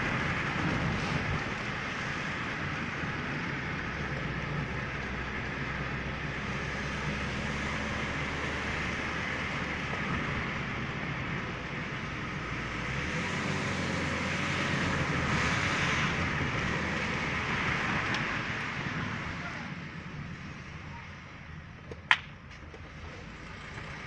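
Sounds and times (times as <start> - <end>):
motor vehicle running: 0.0 - 24.0.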